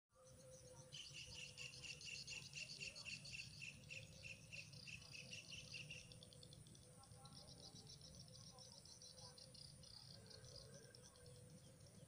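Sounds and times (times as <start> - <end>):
insect chirping: 0.2 - 12.0.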